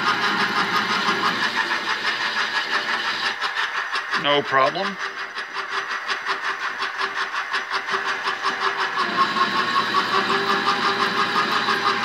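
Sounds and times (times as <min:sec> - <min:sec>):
lathe spindle running: 0:00.0 - 0:12.0.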